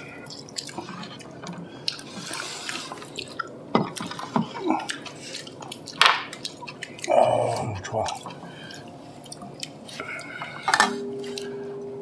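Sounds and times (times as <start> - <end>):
wet chewing and slurping: 0.0 - 11.6.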